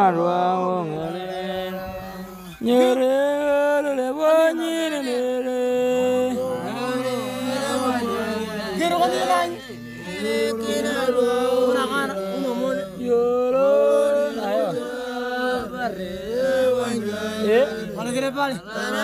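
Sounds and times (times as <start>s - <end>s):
voices chanting a melody: 0.0s - 19.0s.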